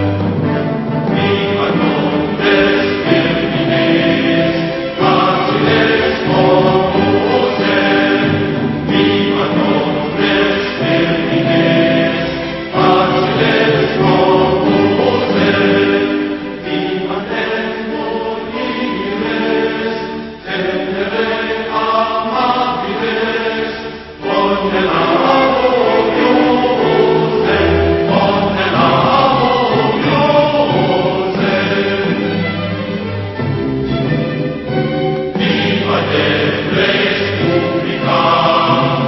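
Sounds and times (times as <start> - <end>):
choir singing: 0.0 - 39.0.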